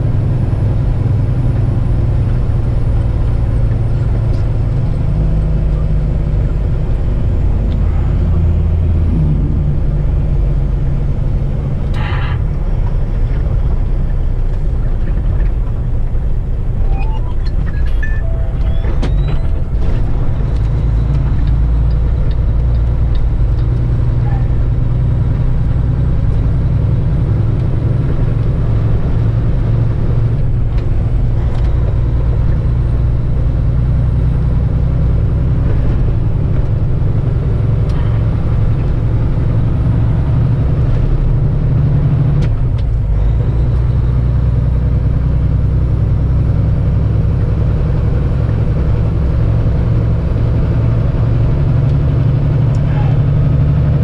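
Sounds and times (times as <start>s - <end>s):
road noise: 0.0s - 54.0s
truck diesel engine droning: 0.0s - 54.0s.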